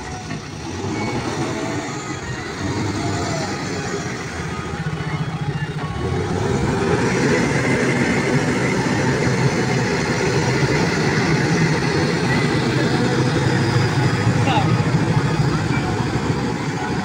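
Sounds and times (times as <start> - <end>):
backhoe diesel engine under load: 0.0 - 17.0.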